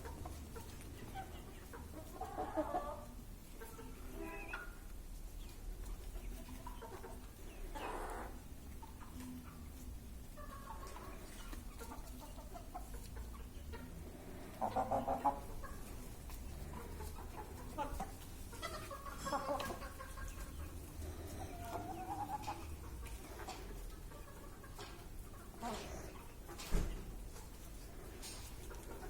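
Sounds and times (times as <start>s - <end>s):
chickens clucking and calling: 0.0s - 29.0s.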